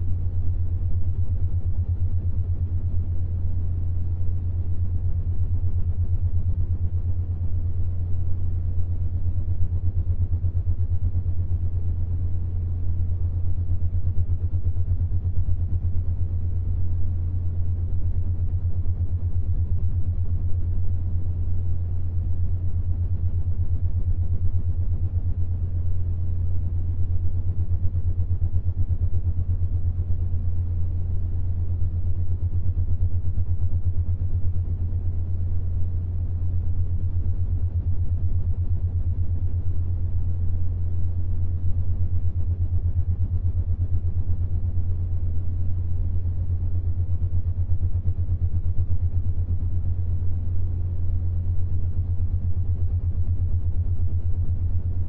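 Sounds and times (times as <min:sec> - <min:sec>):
low pulsing humming tone: 0:00.0 - 0:55.0.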